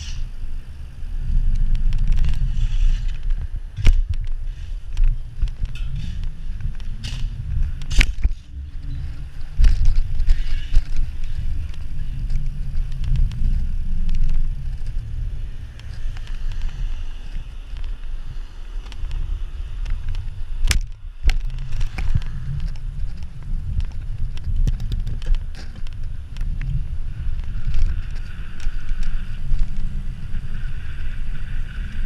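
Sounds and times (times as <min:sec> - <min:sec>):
tyre noise on road: 0:00.0 - 0:32.0
wind buffeting microphone: 0:00.0 - 0:32.0.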